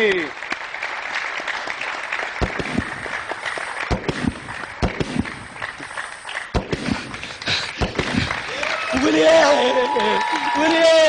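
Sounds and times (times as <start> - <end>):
audience applauding: 0.0 - 11.0
loud separate claps: 0.0 - 11.0.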